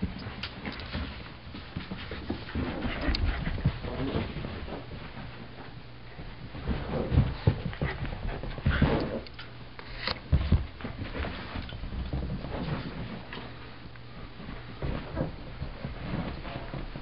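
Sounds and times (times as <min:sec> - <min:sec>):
dogs scuffling: 0:00.0 - 0:17.0.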